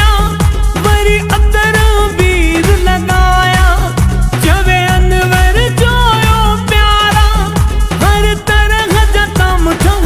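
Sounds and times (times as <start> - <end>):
drum and bass beat: 0.0 - 10.0
folk-pop song: 0.0 - 10.0.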